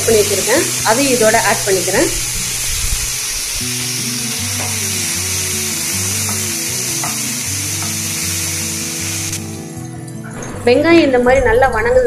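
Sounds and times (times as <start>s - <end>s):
onions sizzling in hot oil: 0.0s - 9.7s
slow melodic background music: 0.0s - 12.0s.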